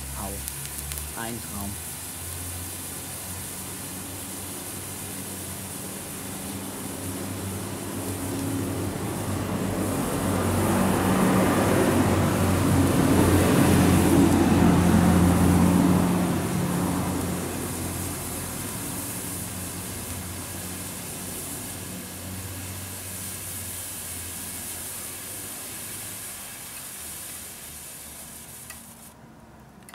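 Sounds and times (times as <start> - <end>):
flare burning with hiss: 0.0 - 29.2.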